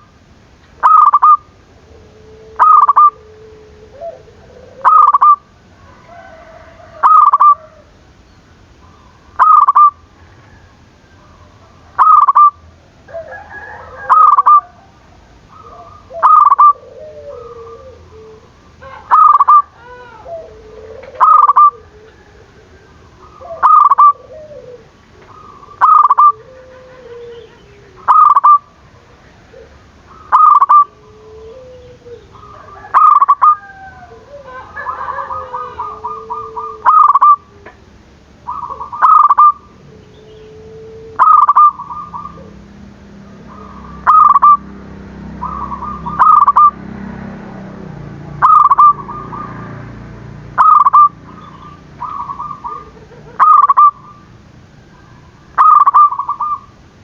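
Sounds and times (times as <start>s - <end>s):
dove cooing: 0.8s - 8.0s, 8.8s - 57.0s.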